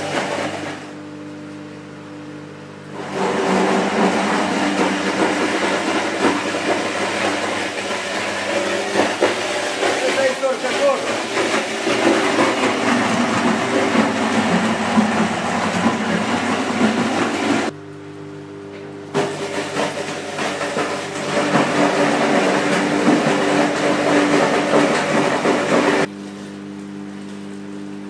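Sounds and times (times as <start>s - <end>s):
machine humming: 0.0s - 28.0s.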